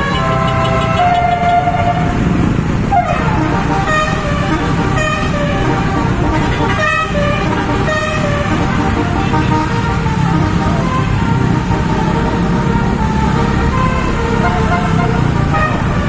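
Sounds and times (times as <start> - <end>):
bus musical horn playing tune: 0.0 - 16.0.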